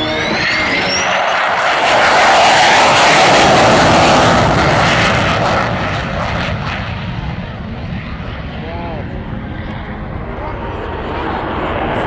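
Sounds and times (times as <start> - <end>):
jet flyby rushing noise: 0.0 - 12.0.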